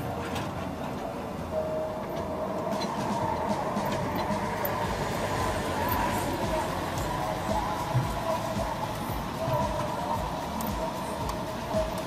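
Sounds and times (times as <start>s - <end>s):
excavator engine rumble: 0.0s - 12.0s
high whine: 0.0s - 12.0s.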